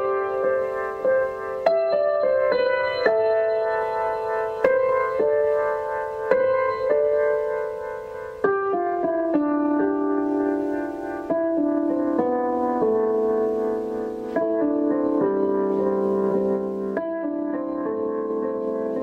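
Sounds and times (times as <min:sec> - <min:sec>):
slow piano-like keyboard music: 0:00.0 - 0:19.0.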